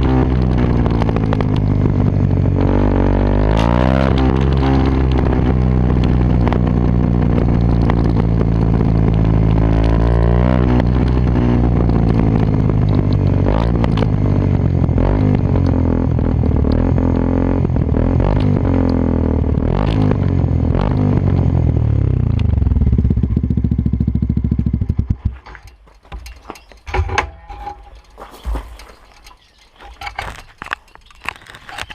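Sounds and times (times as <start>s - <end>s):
motorcycle engine revving: 0.0s - 29.2s.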